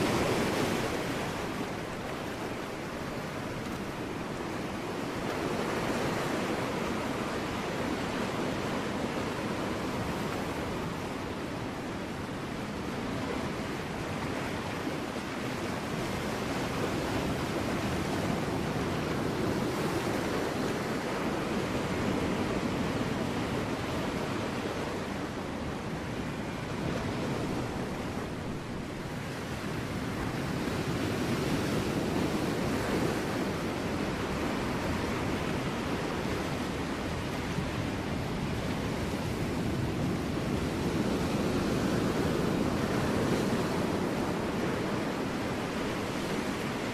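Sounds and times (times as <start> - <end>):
ocean waves washing against rocks: 0.0 - 46.9.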